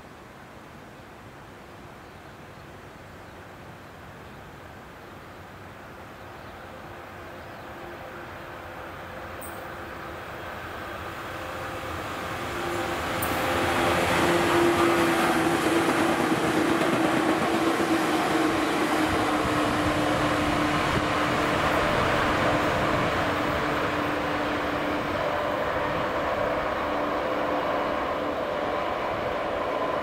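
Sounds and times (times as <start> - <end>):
electric train passing by: 5.5 - 30.0.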